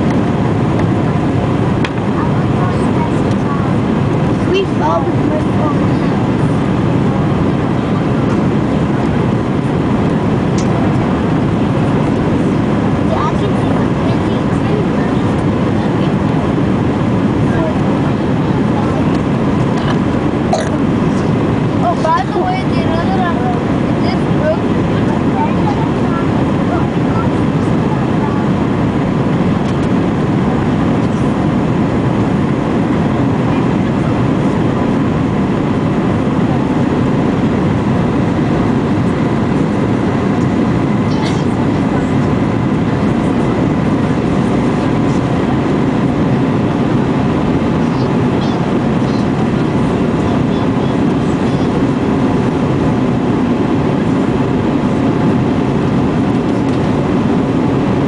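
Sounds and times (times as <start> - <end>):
faint steady hum: 0.0 - 58.0
jet cabin rumble: 0.0 - 58.0.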